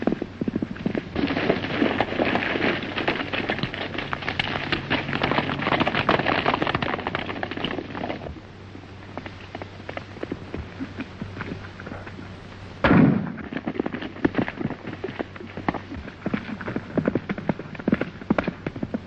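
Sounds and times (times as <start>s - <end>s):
horses galloping on dirt: 0.0s - 12.5s, 13.1s - 19.0s.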